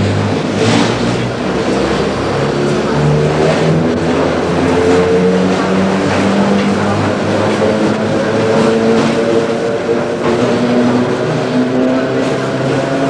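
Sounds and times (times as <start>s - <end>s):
electric train motor hum and whine: 0.0s - 13.0s.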